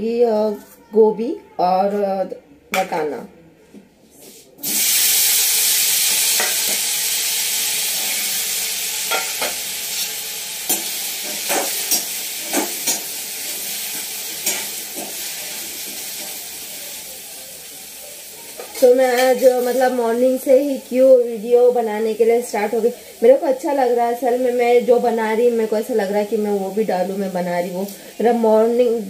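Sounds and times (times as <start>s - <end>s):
food sizzling in hot oil: 4.6s - 29.0s.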